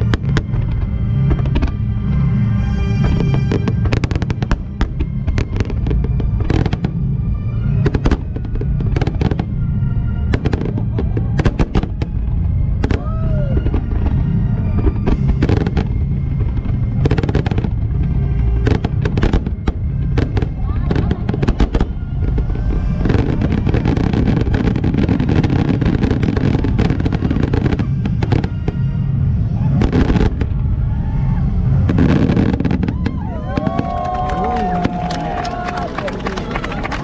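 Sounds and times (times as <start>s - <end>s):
fireworks bangs: 0.0s - 37.0s
heavy low rumble: 0.0s - 37.0s
music with held notes: 0.0s - 37.0s.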